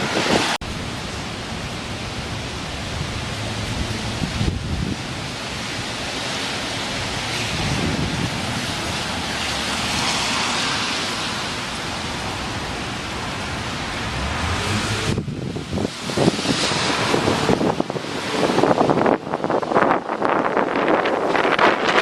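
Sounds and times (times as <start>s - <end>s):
wind buffeting microphone: 0.0s - 0.9s, 1.5s - 6.0s, 6.8s - 11.0s, 13.1s - 22.0s
wind gusting: 0.0s - 22.0s.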